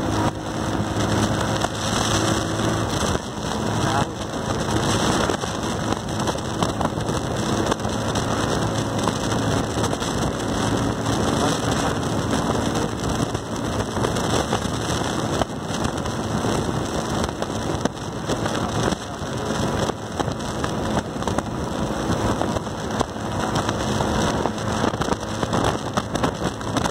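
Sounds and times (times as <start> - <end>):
faint low engine hum: 0.0 - 26.9
wind and road noise: 0.0 - 26.9.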